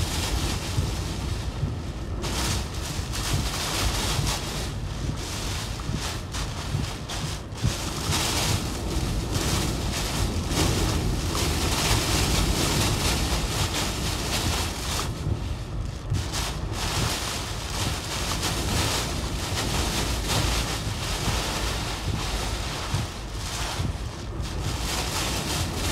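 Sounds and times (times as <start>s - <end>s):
driving rain lashing a vehicle: 0.0s - 25.9s
strong wind: 0.0s - 25.9s
wind buffeting on microphone: 0.0s - 25.9s.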